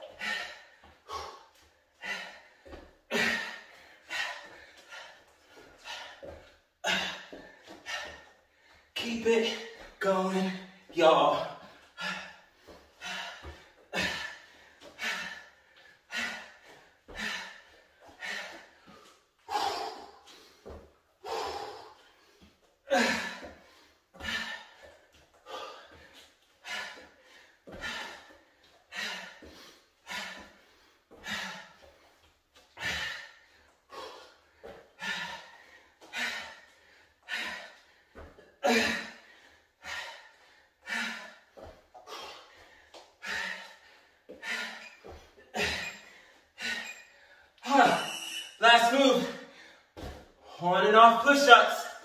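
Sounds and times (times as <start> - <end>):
man breathing hard: 0.0 - 50.6.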